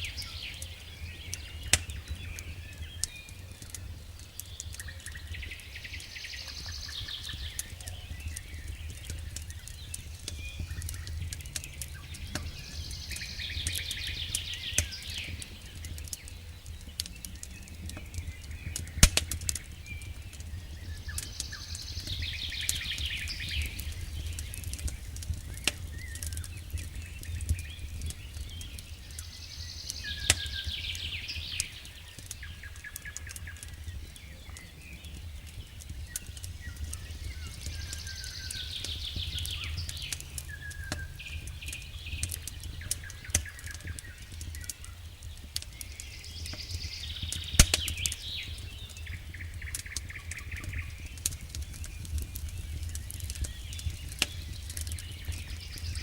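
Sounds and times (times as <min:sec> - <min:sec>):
fire low rumble: 0:00.0 - 0:56.0
fire popping and snapping: 0:00.0 - 0:56.0.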